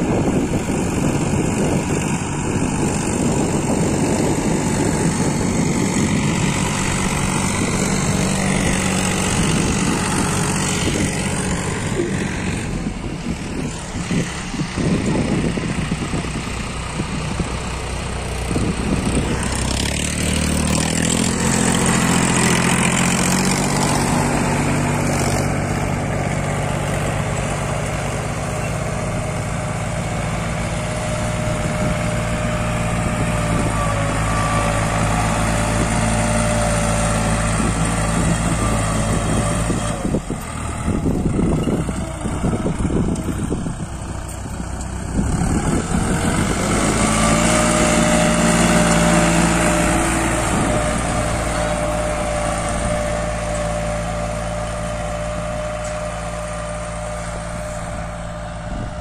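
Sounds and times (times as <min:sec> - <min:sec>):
diesel tractor engines running: 0:00.0 - 0:59.0.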